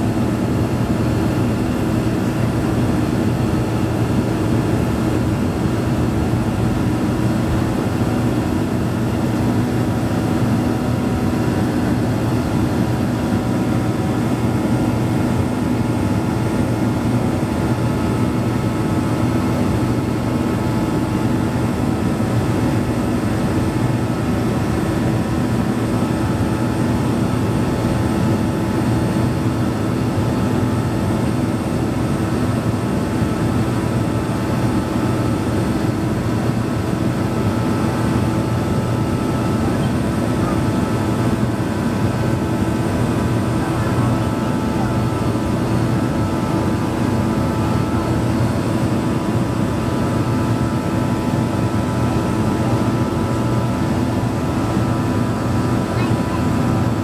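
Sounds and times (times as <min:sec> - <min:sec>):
jet engine cabin drone: 0:00.0 - 0:57.0.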